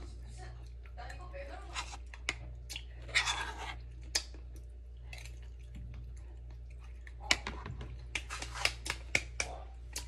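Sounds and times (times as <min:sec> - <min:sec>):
steady low hum: 0:00.0 - 0:10.0
person chewing food: 0:01.7 - 0:10.0.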